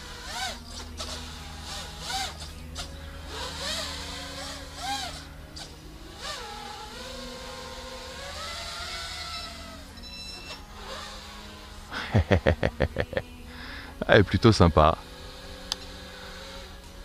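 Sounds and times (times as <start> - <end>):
drone motor and propeller whine: 0.0 - 17.0.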